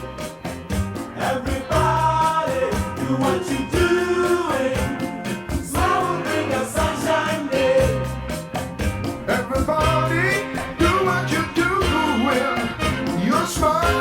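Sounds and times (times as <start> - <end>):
band playing steady beat: 0.0 - 14.0
person singing: 1.2 - 8.3, 9.3 - 14.0.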